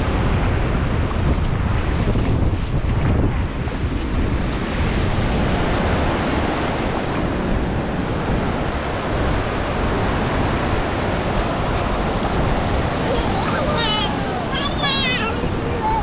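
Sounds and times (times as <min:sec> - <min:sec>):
ocean surf washing onto beach: 0:00.0 - 0:16.0
wind rumbling on microphone: 0:00.0 - 0:16.0.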